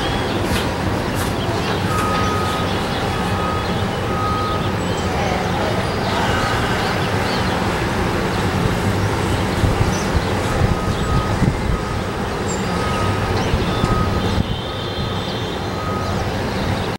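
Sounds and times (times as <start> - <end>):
engine and traffic rumble: 0.0 - 16.9.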